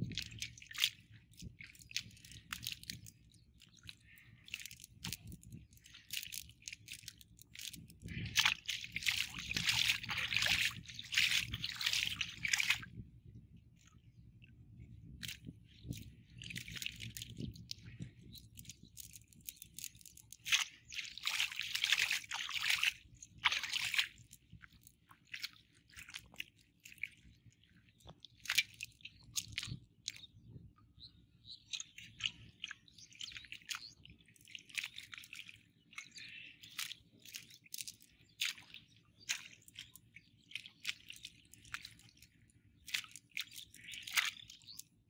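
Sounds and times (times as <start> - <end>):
fishing net squelching in mud: 0.0 - 12.9, 15.2 - 27.3, 28.1 - 30.2, 31.8 - 45.0.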